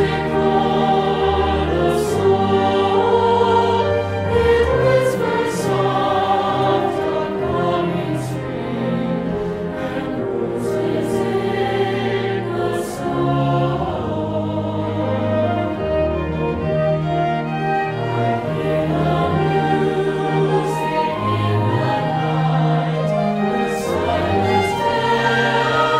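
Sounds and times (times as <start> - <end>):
choir singing a carol: 0.0 - 25.9.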